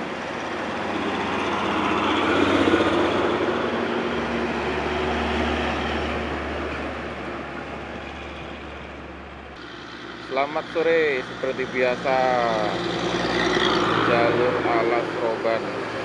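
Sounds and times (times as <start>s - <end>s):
heavy truck driving past: 0.0s - 16.0s.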